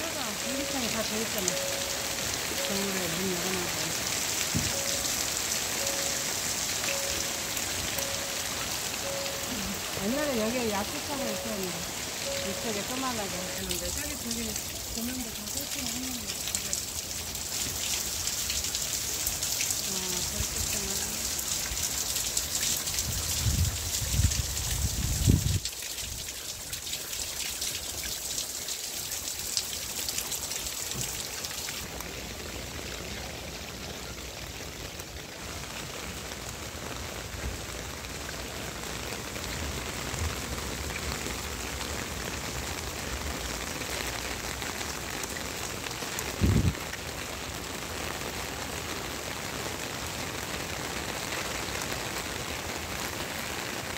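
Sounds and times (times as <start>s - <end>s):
rain pattering and dripping: 0.0s - 53.9s.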